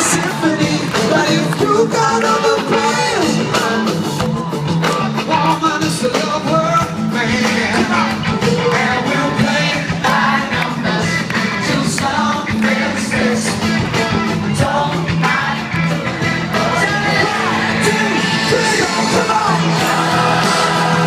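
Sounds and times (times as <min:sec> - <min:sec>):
lead vocal singing: 0:00.0 - 0:04.3, 0:04.9 - 0:21.0
drums: 0:00.0 - 0:21.0
live band music: 0:00.0 - 0:21.0.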